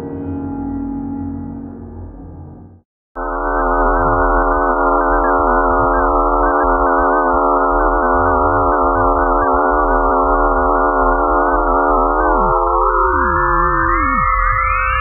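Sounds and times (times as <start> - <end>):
electronic drone with wavering tones: 0.0 - 15.0.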